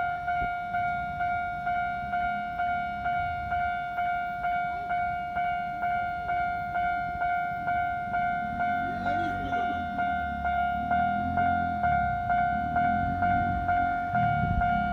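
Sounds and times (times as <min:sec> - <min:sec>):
level crossing bell clanging: 0:01.5 - 0:14.9.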